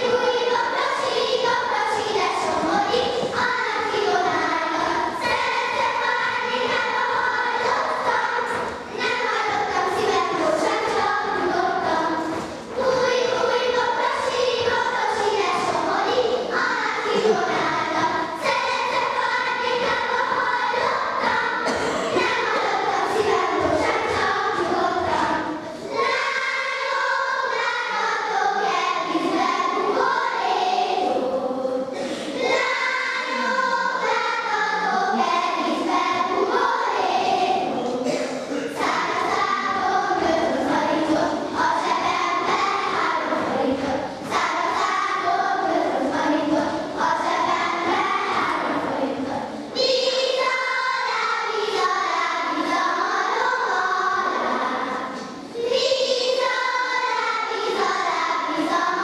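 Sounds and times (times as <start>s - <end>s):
girls singing in unison: 0.0s - 59.0s.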